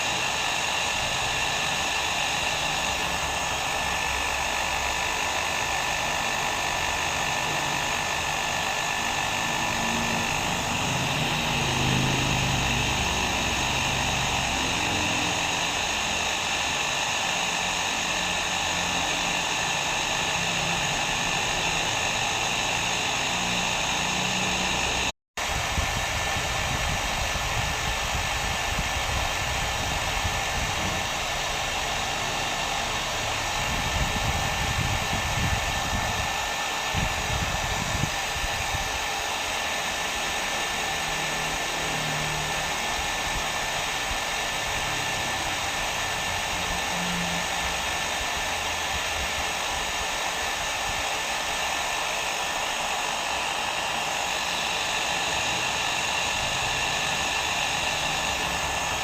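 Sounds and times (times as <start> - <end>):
hair dryer blowing: 0.0 - 59.0.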